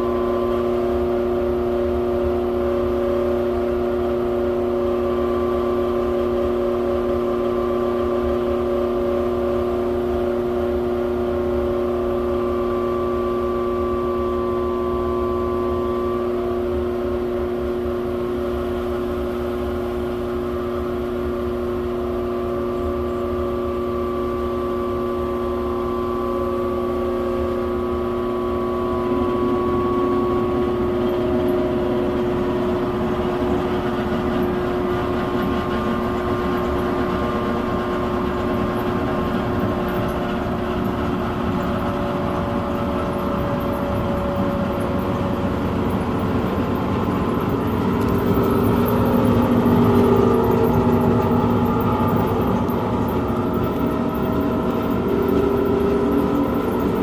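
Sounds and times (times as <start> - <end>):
air conditioning blower humming: 0.0 - 57.0.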